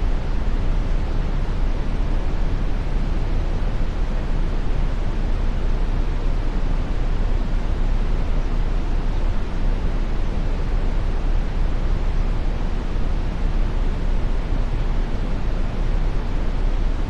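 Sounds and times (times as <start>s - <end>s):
brown noise hiss: 0.0s - 17.0s.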